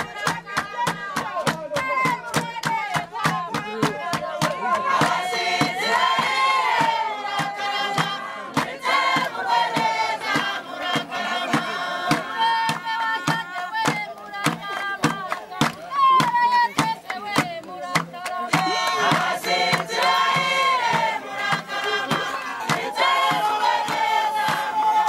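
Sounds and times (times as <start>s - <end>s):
group singing in chorus: 0.0s - 25.0s.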